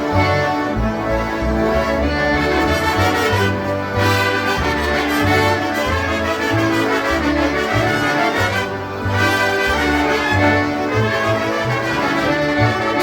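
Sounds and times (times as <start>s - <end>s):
concertinas playing polka: 0.0s - 13.0s
pulsing bass: 0.0s - 13.0s.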